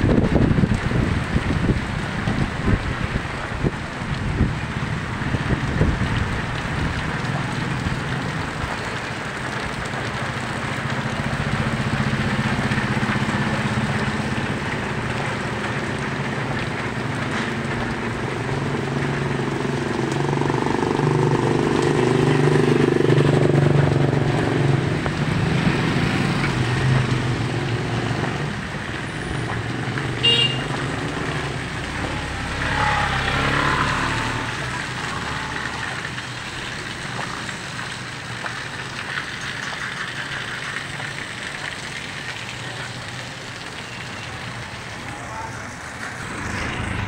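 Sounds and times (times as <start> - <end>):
rain on wet street: 0.0 - 47.0.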